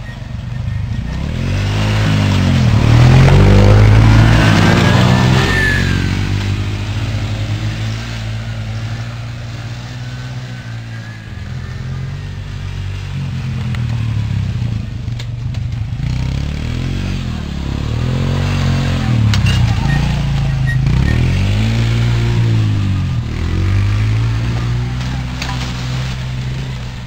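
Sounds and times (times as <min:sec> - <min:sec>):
small atv engine revving: 0:00.8 - 0:14.9, 0:15.9 - 0:27.0.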